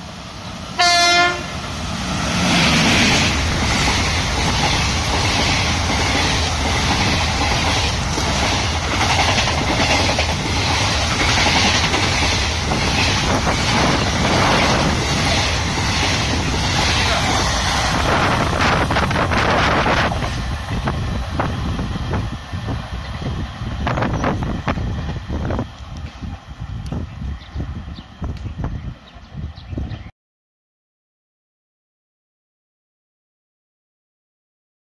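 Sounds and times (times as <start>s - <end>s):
passenger train rushing past: 0.0s - 30.1s
wind: 0.0s - 30.1s.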